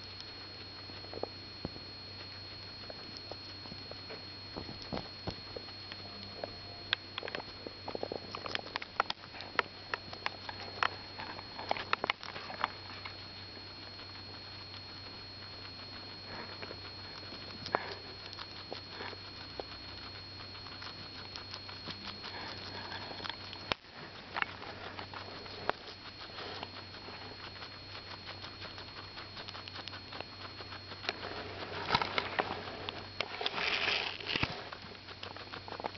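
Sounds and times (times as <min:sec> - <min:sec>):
guinea pig sniffing: 0:00.0 - 0:35.9
guinea pigs chewing leaves: 0:00.0 - 0:35.9.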